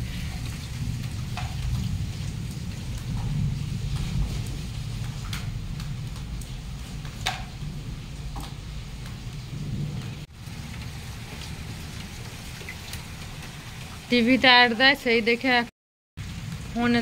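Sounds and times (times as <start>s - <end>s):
water dripping onto concrete floor: 0.0s - 14.1s
heavy rain rumble: 0.0s - 15.0s, 16.2s - 17.0s.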